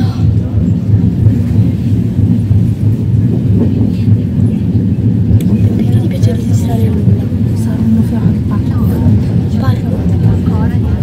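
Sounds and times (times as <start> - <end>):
train running on track: 0.0 - 11.0.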